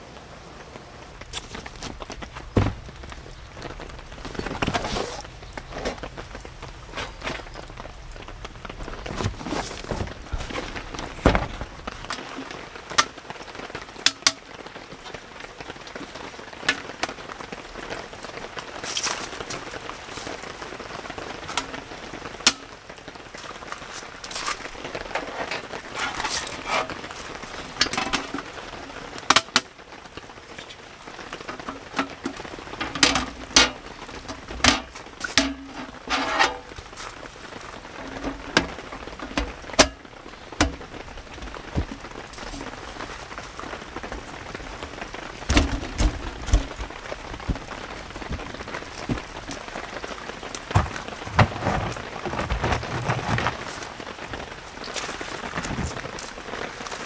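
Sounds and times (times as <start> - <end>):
falling rain hiss: 0.0 - 57.0
camping gear clicks and rustles: 0.7 - 57.0.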